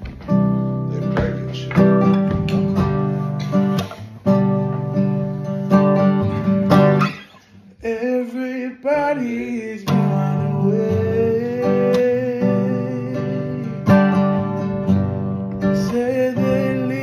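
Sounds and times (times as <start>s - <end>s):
classical guitar strummed chords: 0.0s - 8.1s, 8.9s - 17.0s.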